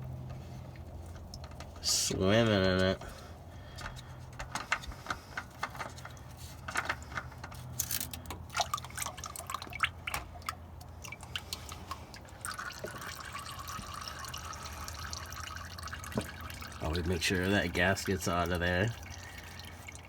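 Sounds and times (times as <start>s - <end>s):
oil dripping into drain pan: 0.0s - 4.6s, 8.0s - 20.0s.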